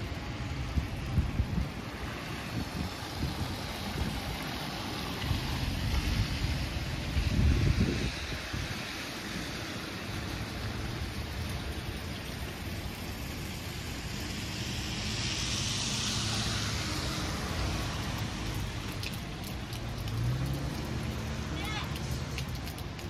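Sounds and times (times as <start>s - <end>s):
tyres hissing on wet road: 0.0s - 23.0s.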